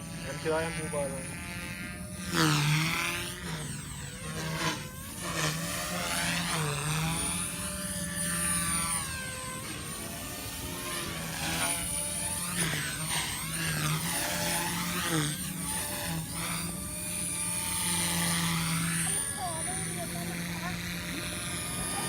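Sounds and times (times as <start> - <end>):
rc helicopter rotor whine: 0.0 - 22.0.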